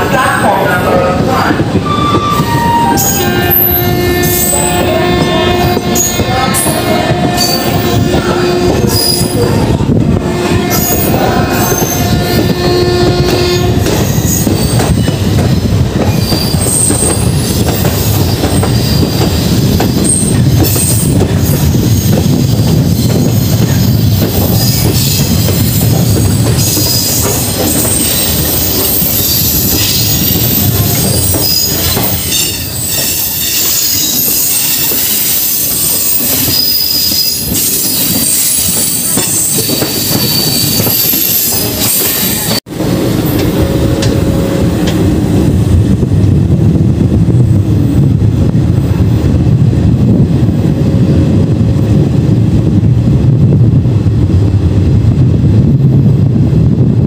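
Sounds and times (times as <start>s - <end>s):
train rattle and clatter: 0.0s - 57.0s
train wheels rumbling on track: 0.0s - 57.0s.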